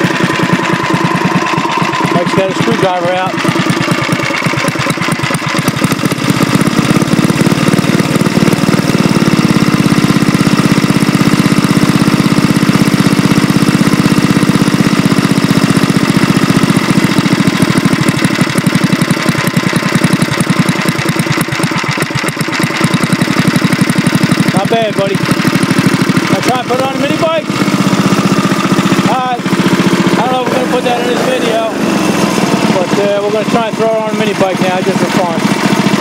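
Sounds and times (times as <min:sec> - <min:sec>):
small engine idling: 0:00.0 - 0:36.0.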